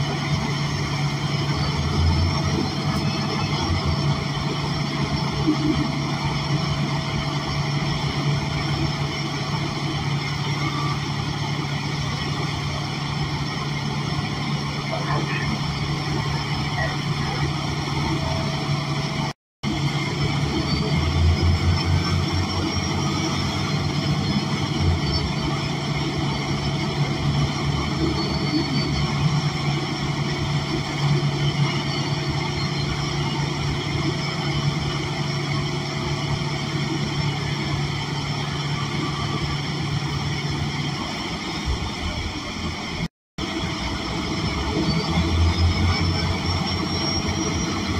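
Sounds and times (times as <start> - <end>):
bus engine low drone: 0.0 - 47.9.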